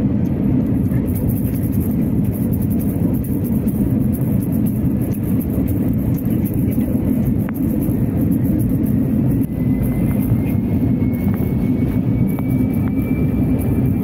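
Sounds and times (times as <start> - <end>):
airliner engines rumbling: 0.0 - 14.0
rushing air: 0.0 - 14.0
faint thin whine rising in pitch: 1.0 - 14.0.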